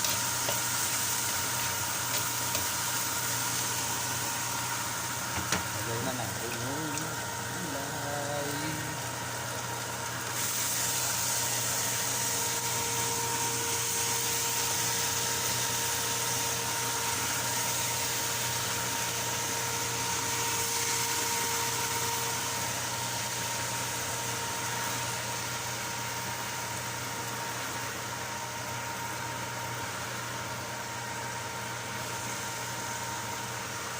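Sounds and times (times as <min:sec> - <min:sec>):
machine hum with hiss: 0:00.0 - 0:33.9.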